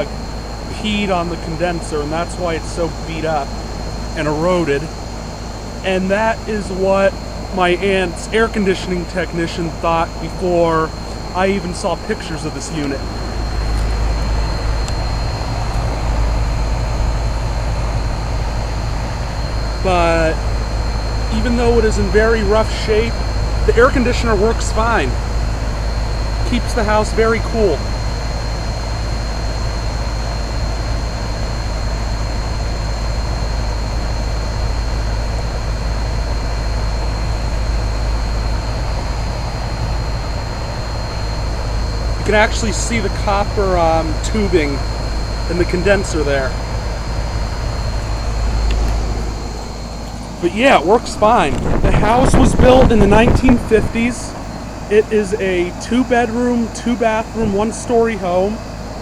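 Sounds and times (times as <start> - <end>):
compressor humming low: 0.0 - 59.0
condenser fan blowing air: 0.0 - 59.0
thin high whine: 0.0 - 59.0.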